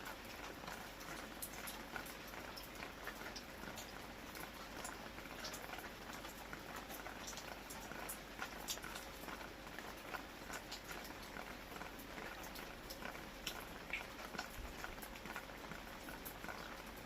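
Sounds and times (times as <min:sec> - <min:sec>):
raindrops ticking close by: 0:00.0 - 0:17.0
steady rain: 0:00.0 - 0:17.0.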